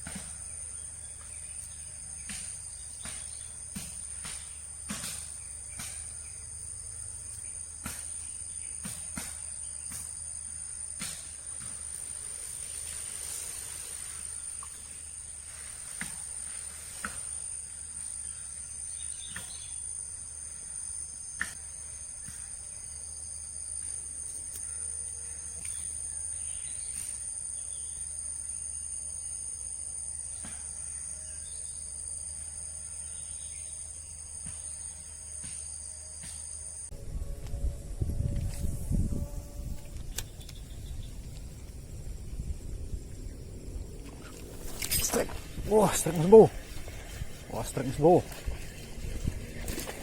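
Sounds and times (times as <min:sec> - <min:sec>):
crickets chirring: 0:00.0 - 0:50.0.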